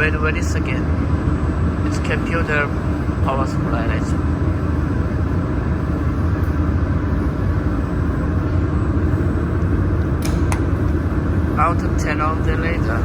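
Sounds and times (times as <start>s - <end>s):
water chiller humming: 0.0s - 13.0s.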